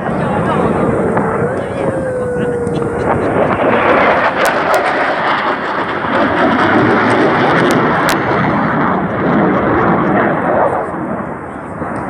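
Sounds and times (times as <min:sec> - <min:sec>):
fighter jet roar: 0:00.0 - 0:12.0.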